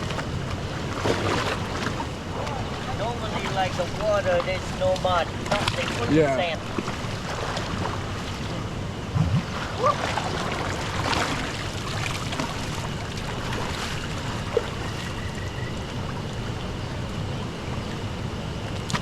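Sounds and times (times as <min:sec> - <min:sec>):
water rushing and splashing: 0:00.0 - 0:19.0
wind noise on microphone: 0:00.0 - 0:19.0.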